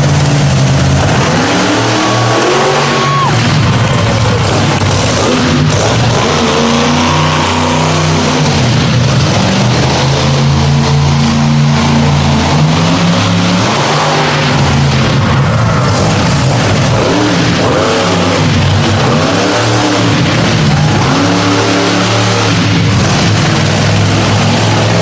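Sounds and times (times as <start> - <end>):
monster truck engine revving: 0.0 - 25.0.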